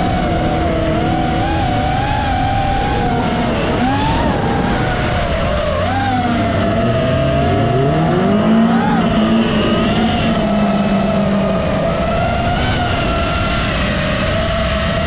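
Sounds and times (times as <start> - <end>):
drone propellers whining: 0.0 - 15.0
race car engines revving: 0.0 - 15.0.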